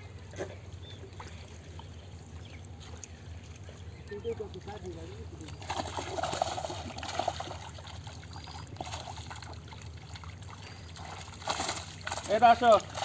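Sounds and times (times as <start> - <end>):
small splashes and wet clicks: 0.0 - 13.0
water trickling and splashing: 0.0 - 13.0.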